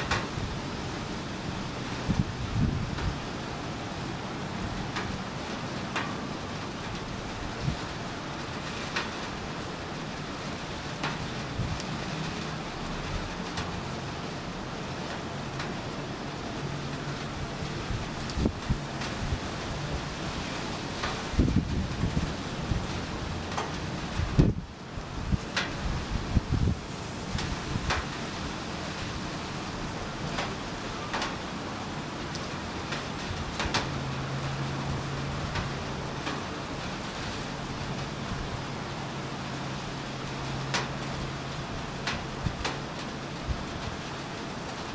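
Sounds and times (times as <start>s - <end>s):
gentle rain falling: 0.0s - 44.9s
raindrops striking surface: 0.0s - 44.9s.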